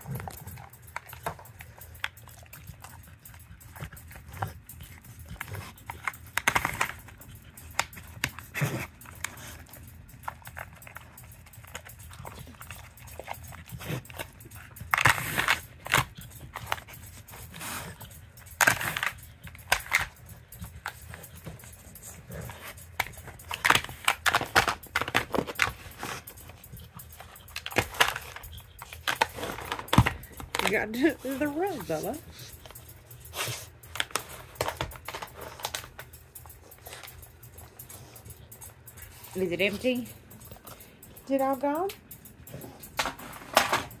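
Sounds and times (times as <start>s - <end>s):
dog sniffing: 0.0s - 44.0s.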